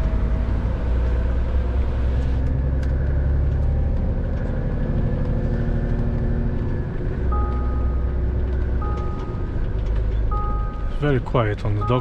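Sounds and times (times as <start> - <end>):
lorry engine drone in cab: 0.0 - 12.0.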